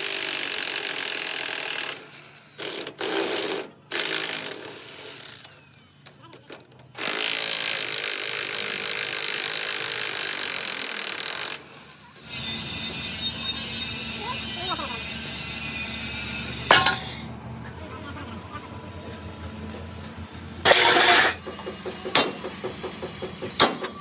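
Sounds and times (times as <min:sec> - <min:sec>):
power tool on steel: 0:00.0 - 0:17.7, 0:18.7 - 0:24.0.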